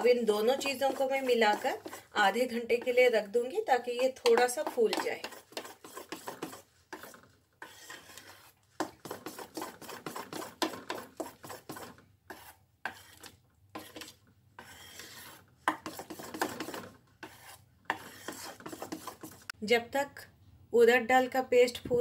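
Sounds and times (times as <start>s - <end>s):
fingers scraping batter on metal plate: 0.0s - 19.6s.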